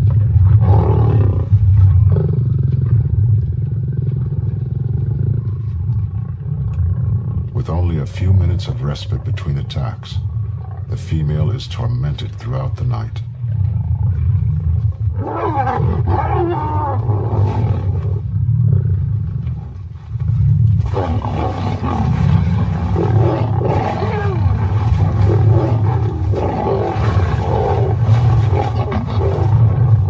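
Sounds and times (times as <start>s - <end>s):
lions snarling and yowling: 0.0s - 11.0s, 13.3s - 30.0s
lions growling: 0.0s - 30.0s.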